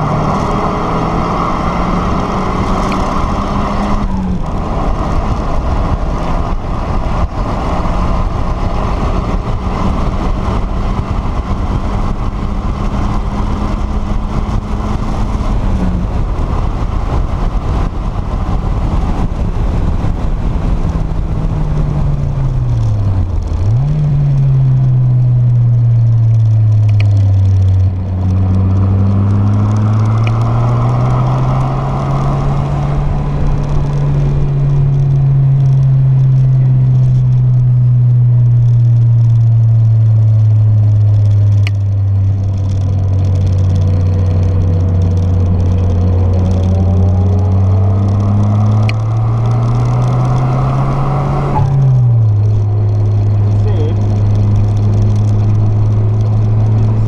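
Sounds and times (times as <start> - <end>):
car engine pulling hard: 0.0 - 57.0
road noise: 0.0 - 57.0
wind noise: 0.0 - 57.0.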